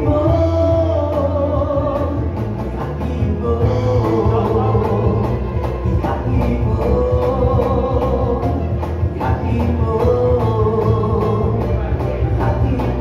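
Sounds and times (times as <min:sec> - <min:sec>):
bass guitar: 0:00.0 - 0:13.0
box drum percussion: 0:00.0 - 0:13.0
guitar: 0:00.0 - 0:13.0
man singing: 0:00.0 - 0:13.0.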